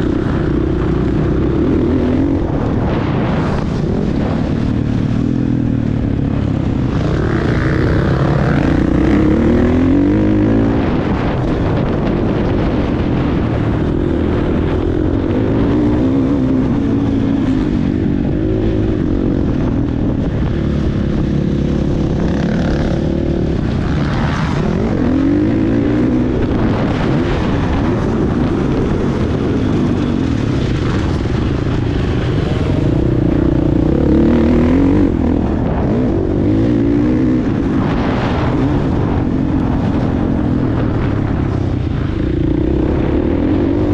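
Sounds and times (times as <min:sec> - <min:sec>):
motocross bike engine revving: 0:00.0 - 0:41.5.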